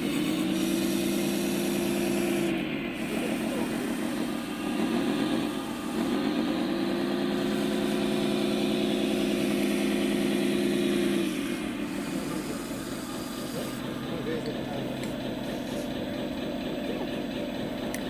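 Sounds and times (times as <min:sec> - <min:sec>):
simulated truck engine sound: 0:00.0 - 0:18.0.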